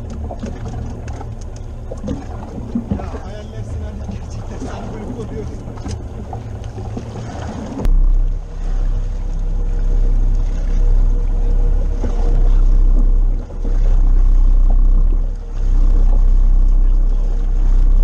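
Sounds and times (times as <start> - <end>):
outboard engine running: 0.0 - 18.0
water noise: 0.0 - 18.0
wind: 0.0 - 18.0.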